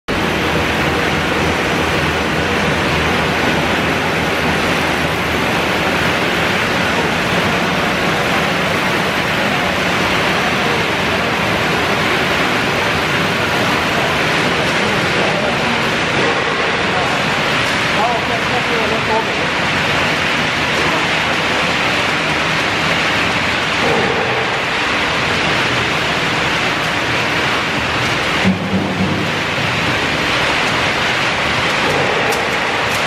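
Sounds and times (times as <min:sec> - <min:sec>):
loud steady machine noise: 0:00.1 - 0:33.0.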